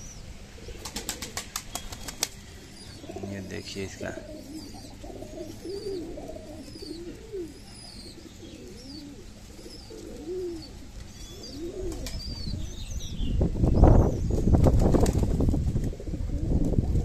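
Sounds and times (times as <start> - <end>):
pigeons cooing: 0.0 - 13.0, 15.8 - 17.0.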